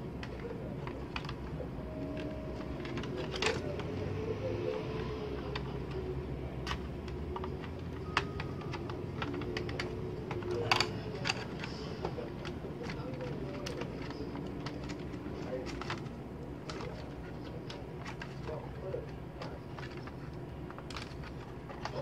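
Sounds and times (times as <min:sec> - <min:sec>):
low background noise: 0:00.0 - 0:22.0
plastic parts clicking: 0:00.2 - 0:04.0, 0:04.7 - 0:22.0.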